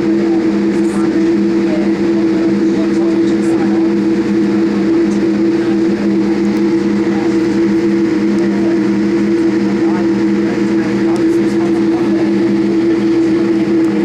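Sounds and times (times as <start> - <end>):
low two-toned engine hum: 0.0 - 14.0.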